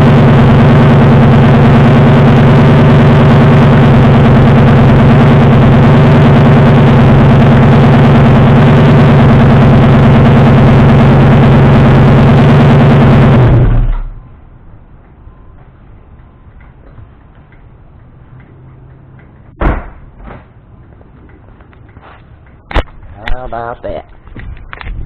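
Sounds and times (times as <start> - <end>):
car exhaust idling: 0.0 - 23.4.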